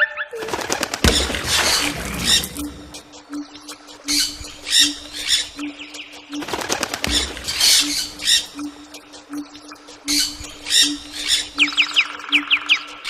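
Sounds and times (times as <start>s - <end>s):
birds calling in harsh bursts: 0.3s - 8.9s, 9.6s - 13.0s.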